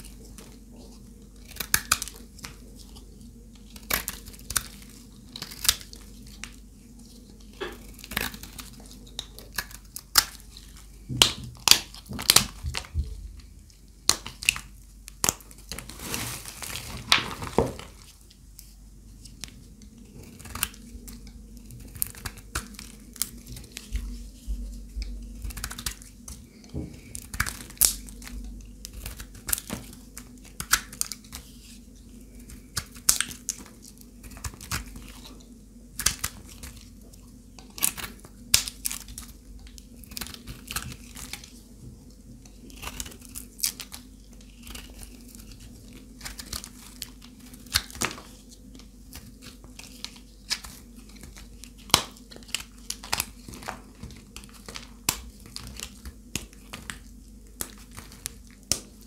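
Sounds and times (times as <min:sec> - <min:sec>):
dry soap crunching and crackling: 0:00.0 - 0:59.0.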